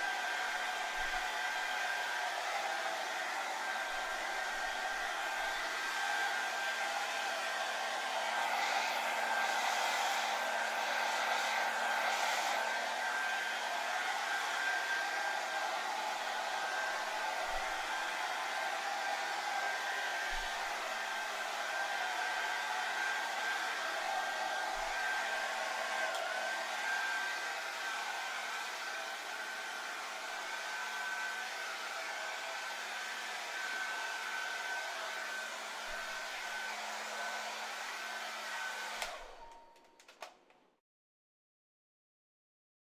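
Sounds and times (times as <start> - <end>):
hairdryer running: 0.0 - 40.4.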